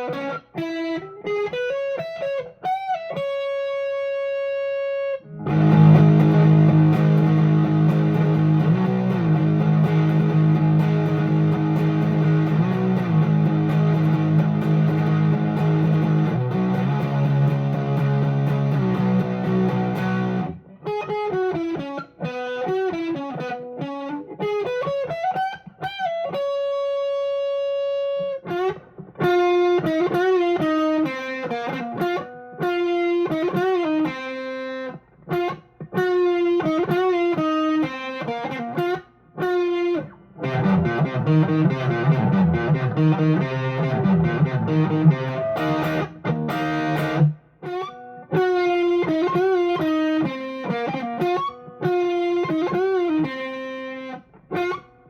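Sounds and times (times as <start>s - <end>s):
overdriven electric guitar: 0.0s - 55.0s.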